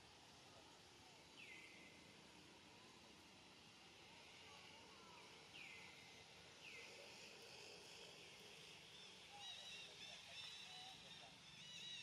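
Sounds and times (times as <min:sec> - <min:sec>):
faint forest ambience: 0:00.0 - 0:12.0.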